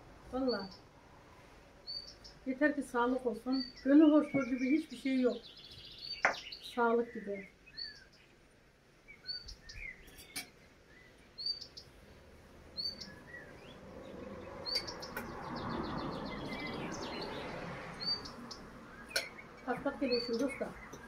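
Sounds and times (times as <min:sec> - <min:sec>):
small birds chirping: 0:00.3 - 0:21.0.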